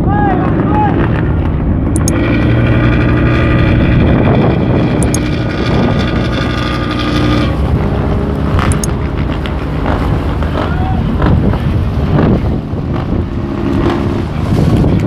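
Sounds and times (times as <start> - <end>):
boat engine humming: 0.0 - 15.0
high engine whine: 0.0 - 15.0.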